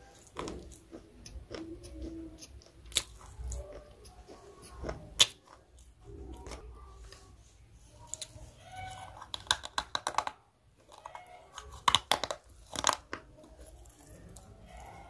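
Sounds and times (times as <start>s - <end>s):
crunchy vegetable chewing: 0.0s - 15.0s.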